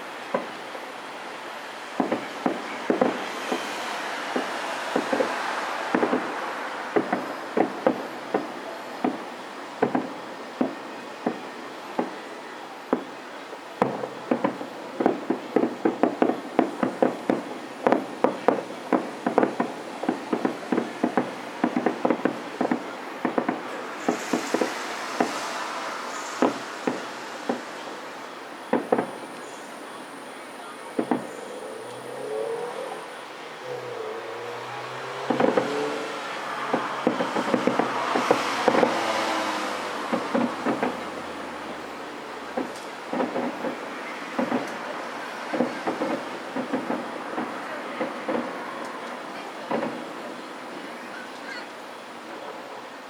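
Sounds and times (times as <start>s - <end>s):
distant fireworks bursting: 0.0s - 53.0s.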